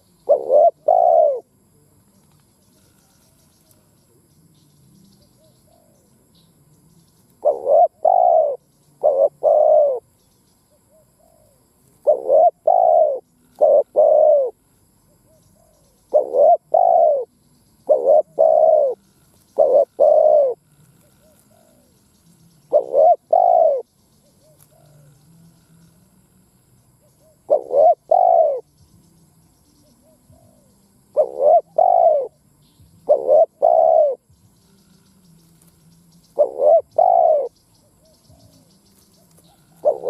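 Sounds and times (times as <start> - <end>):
dove cooing: 0.0 - 1.9, 5.2 - 28.8, 29.6 - 40.0.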